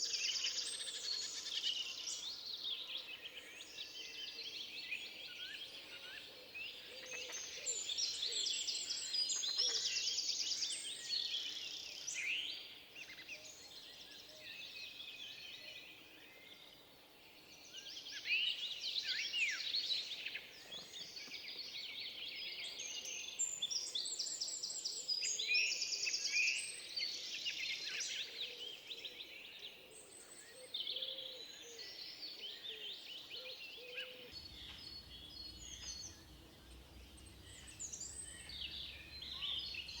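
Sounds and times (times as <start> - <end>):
songbirds singing: 0.0 - 16.7, 17.6 - 40.0.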